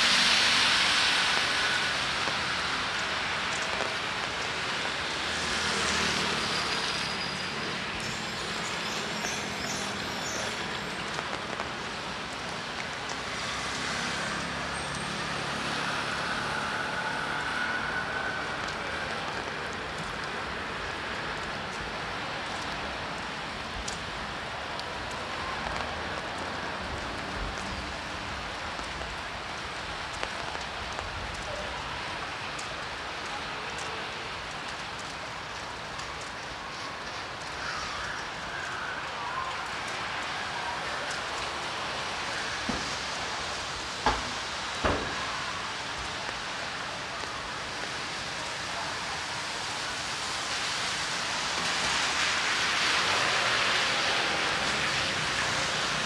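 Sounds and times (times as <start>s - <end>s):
passing traffic: 0.0s - 56.0s
steady rain: 0.0s - 56.0s.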